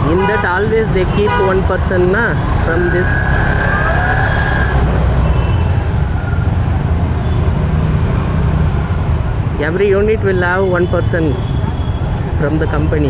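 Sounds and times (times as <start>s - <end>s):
motorcycle engine and road rumble: 0.0s - 13.0s.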